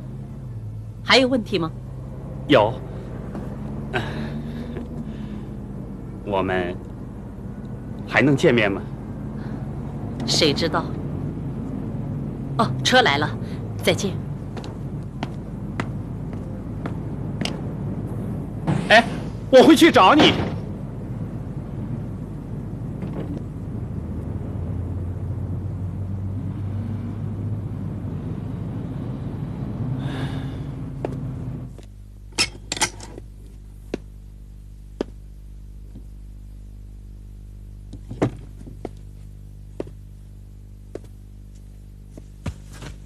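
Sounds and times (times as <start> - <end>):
quiet steady hum: 0.0 - 43.0
vehicle rumbling: 0.0 - 43.0.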